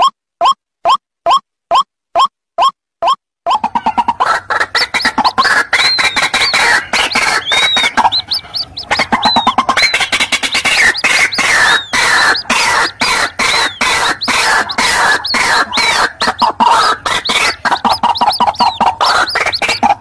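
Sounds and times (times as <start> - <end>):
harsh bird clucking: 0.0 - 20.0
high arched bird peeping: 0.0 - 20.0.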